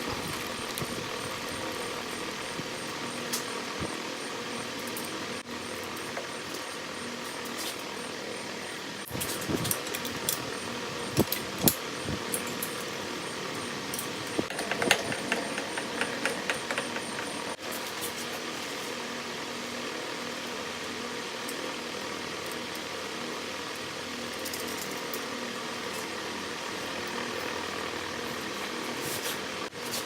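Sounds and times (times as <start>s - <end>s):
fan humming: 0.0s - 30.0s.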